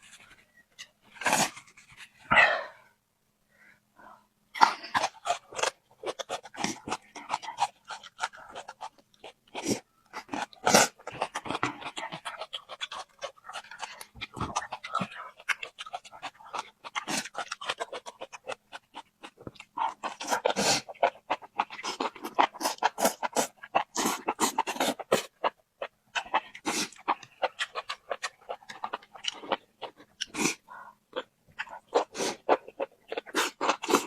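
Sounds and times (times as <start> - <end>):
wet chewing and lip-smacking: 4.6 - 34.0.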